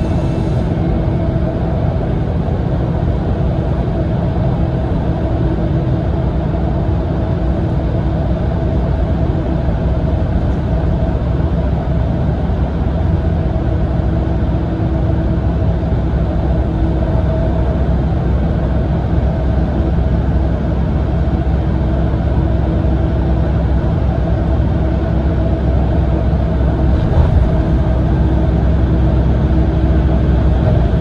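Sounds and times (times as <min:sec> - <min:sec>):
diesel engine and tyres rumbling: 0:00.0 - 0:31.0.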